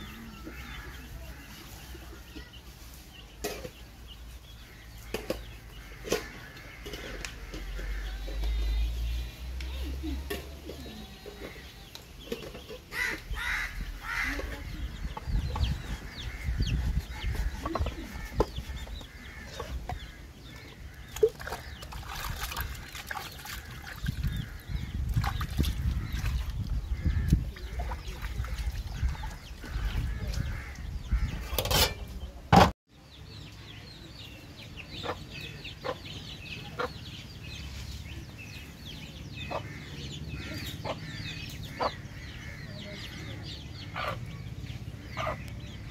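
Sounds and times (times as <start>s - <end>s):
chickens clucking: 0.0s - 22.0s, 24.0s - 32.7s, 33.4s - 45.9s.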